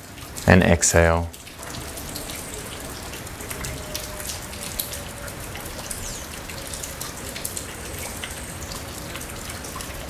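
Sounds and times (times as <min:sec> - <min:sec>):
raindrops ticking close by: 0:00.0 - 0:10.0
steady rainfall hiss: 0:00.0 - 0:10.0.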